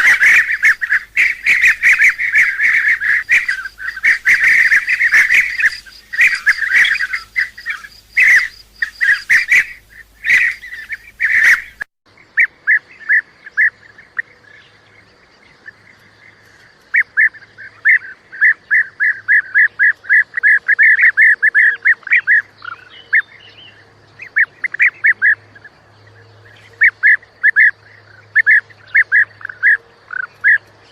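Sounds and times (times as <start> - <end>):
bee-eaters calling: 0.0 - 14.8, 16.9 - 30.9.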